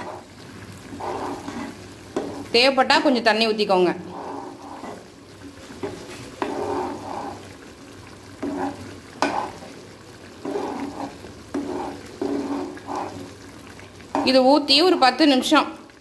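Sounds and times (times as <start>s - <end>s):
gravy bubbling: 0.0s - 3.0s, 3.6s - 14.4s
spoon scraping pan: 0.0s - 15.0s.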